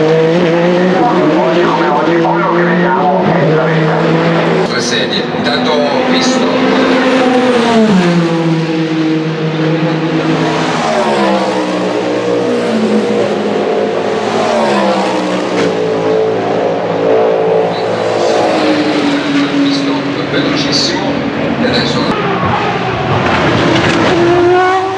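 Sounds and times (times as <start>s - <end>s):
race car engines: 0.0s - 24.9s.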